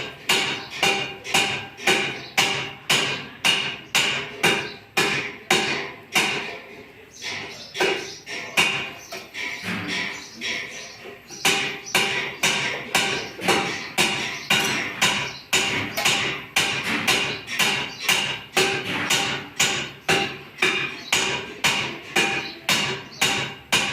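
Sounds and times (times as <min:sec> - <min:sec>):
hammer striking copper: 0:00.0 - 0:06.6, 0:07.2 - 0:23.9.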